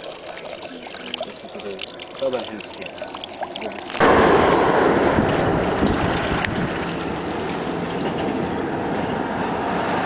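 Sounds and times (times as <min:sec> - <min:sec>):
water splashing into basin: 0:00.0 - 0:08.2.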